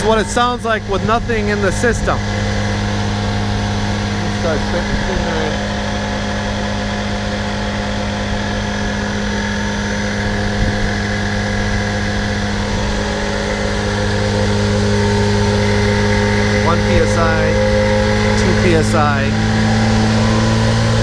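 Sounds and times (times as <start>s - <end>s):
rotary blower humming: 0.0s - 21.0s.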